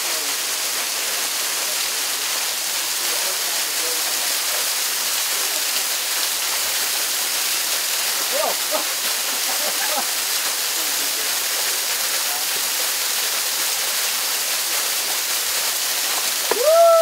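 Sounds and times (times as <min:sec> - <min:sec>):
waterfall splashing onto rocks: 0:00.0 - 0:17.0.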